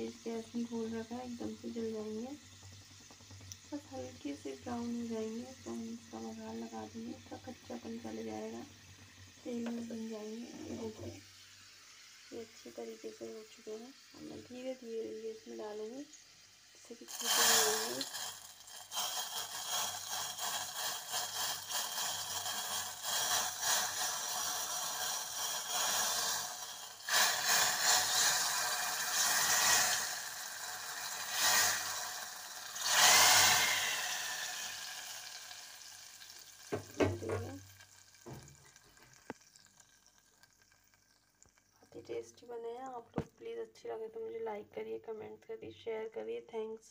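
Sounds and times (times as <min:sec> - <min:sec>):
garlic sizzling in hot oil: 0:00.0 - 0:42.9.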